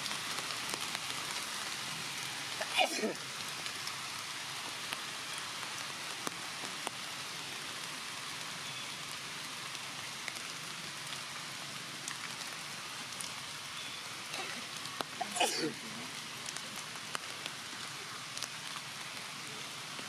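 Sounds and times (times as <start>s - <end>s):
rain-like hiss: 0.0s - 20.0s.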